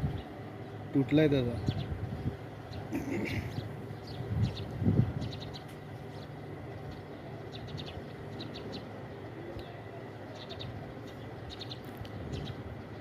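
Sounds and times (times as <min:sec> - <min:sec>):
sparrow chirping: 0:00.0 - 0:13.0
steady low hum: 0:00.0 - 0:13.0.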